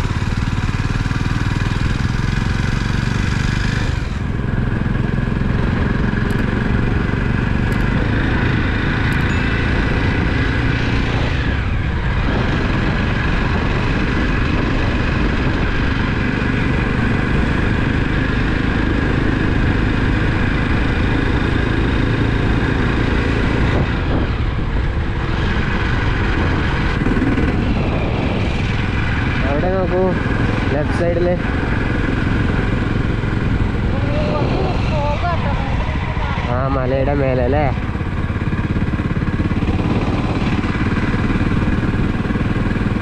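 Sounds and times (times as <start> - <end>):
motorcycle engine running: 0.0 - 43.0
wind rush: 3.4 - 43.0.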